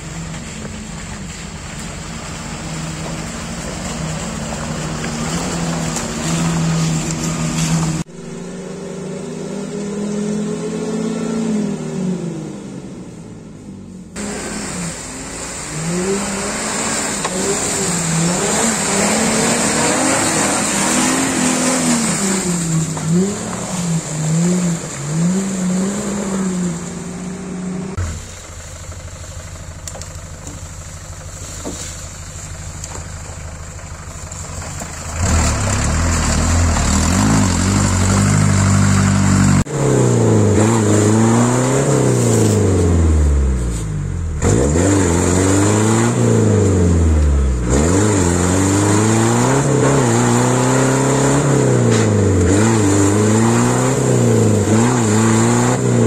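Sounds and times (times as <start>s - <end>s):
off-road engines revving: 0.0s - 28.4s, 33.7s - 56.0s.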